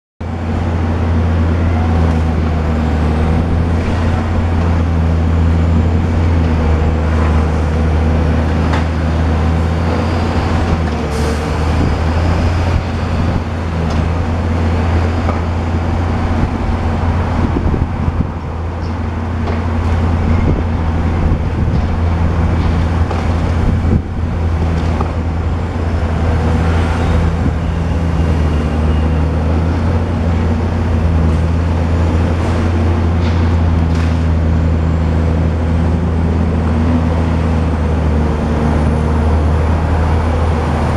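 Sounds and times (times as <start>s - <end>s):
excavator diesel engine droning: 0.2s - 40.9s.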